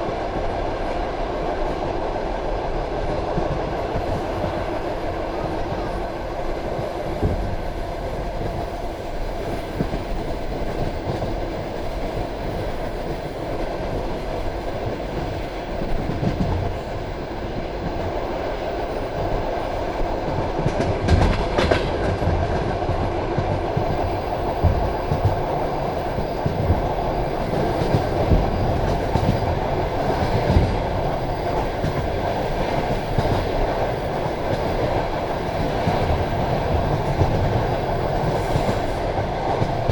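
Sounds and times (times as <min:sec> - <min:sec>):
train carriage rumbling and rattling: 0:00.0 - 0:39.9.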